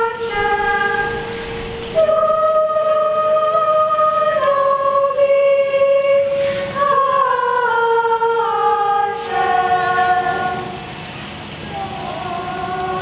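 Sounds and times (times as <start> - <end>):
children's choir singing: 0.0 - 13.0.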